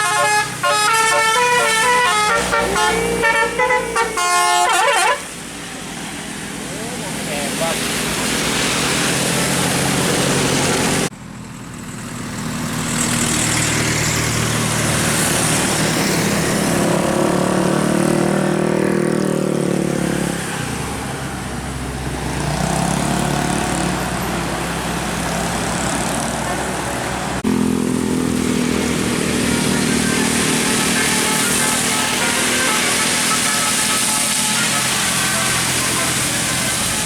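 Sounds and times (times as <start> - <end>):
vehicle engines passing: 0.0 - 37.0
engine accelerating: 7.2 - 37.0.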